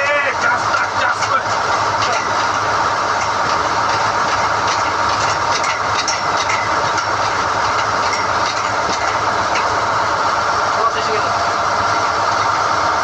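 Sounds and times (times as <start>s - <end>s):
drilling rig running: 0.0s - 13.0s.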